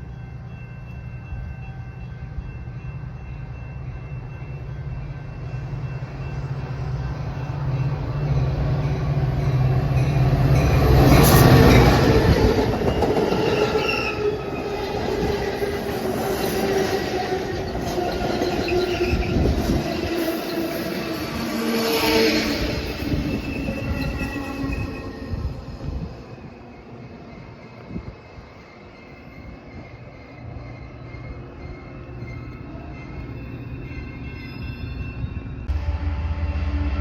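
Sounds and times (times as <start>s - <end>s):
diesel locomotive engine rumble: 0.0s - 34.4s, 35.1s - 37.0s
train wheels squealing on rails: 0.0s - 35.7s.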